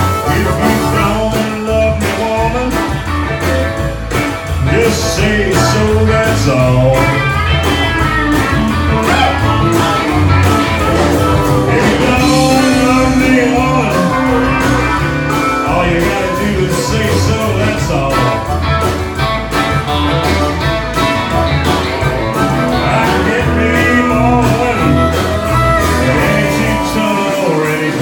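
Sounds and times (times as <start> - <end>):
country band playing: 0.0 - 28.0.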